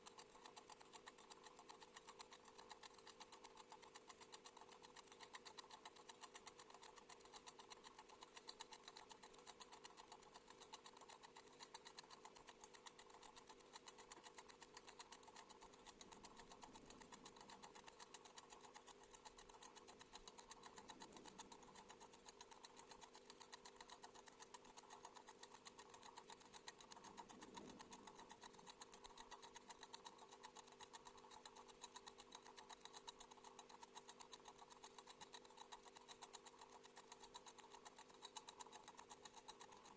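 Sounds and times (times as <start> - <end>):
clockwork timer ticking: 0.0 - 39.9.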